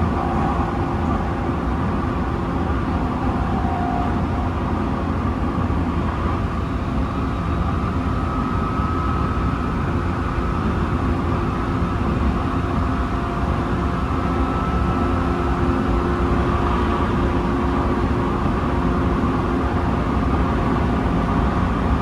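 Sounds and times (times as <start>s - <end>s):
faint train whine: 0.0s - 22.0s
wheels rumbling on rail: 0.0s - 22.0s.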